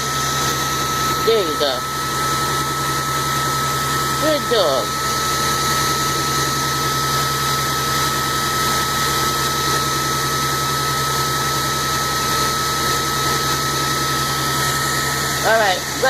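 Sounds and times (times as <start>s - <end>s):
blow dryer running: 0.0s - 16.0s.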